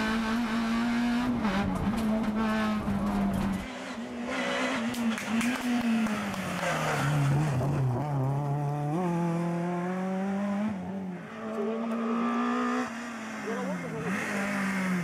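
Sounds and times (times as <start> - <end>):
rally car engine passing: 0.0 - 15.0.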